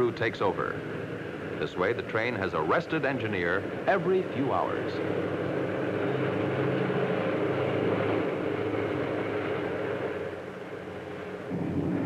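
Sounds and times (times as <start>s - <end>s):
locomotive engine droning: 0.0s - 12.0s.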